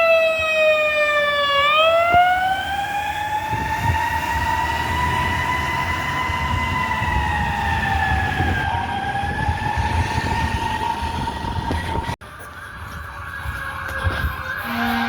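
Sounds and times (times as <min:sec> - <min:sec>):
fire truck siren tone: 0:00.0 - 0:15.0.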